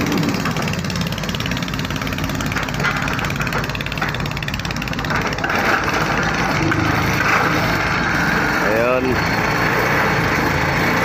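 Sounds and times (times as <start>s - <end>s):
excavator engine running: 0.0s - 11.0s.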